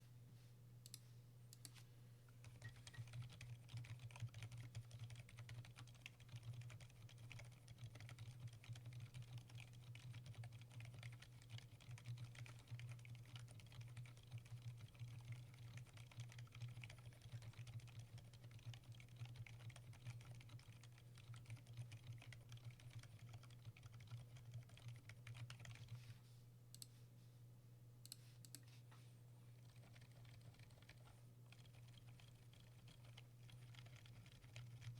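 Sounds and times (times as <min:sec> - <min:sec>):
fast typing on keyboard: 0:02.4 - 0:26.0, 0:29.6 - 0:34.9.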